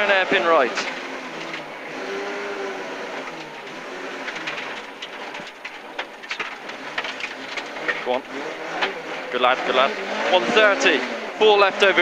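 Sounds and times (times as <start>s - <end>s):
rally car engine at low revs: 0.0s - 12.0s
car ticks and clatter: 0.1s - 1.9s, 3.1s - 12.0s.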